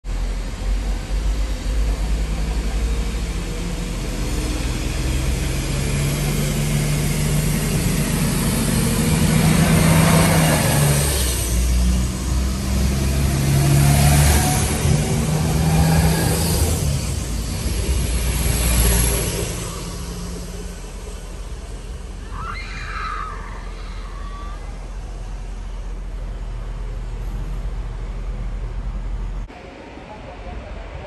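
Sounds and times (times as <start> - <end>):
diesel train engine droning: 0.0 - 31.0
rush of passing train: 0.0 - 31.0.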